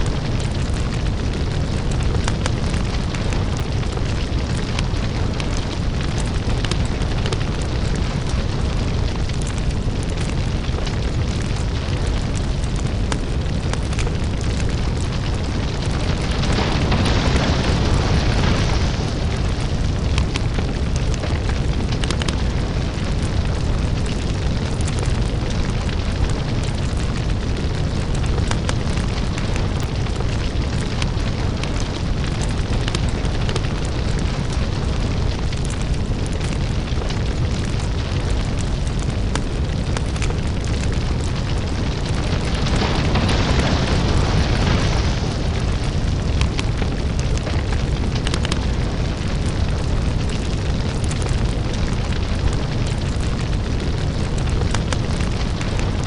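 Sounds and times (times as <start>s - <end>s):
deep steady rumble: 0.0s - 56.0s
lava crackling and popping: 0.0s - 56.0s.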